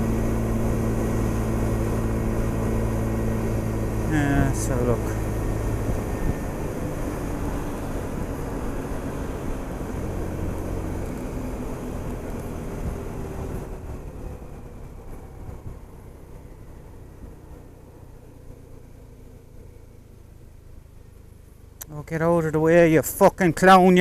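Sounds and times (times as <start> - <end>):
scooter engine running: 0.0 - 21.8
wind and road noise: 0.0 - 24.0.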